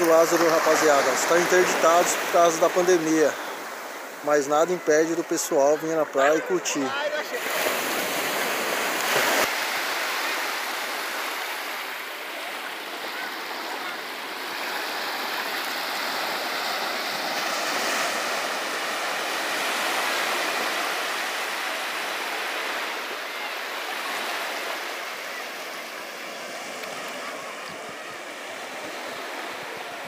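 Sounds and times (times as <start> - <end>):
small waves washing on beach: 0.0 - 30.0.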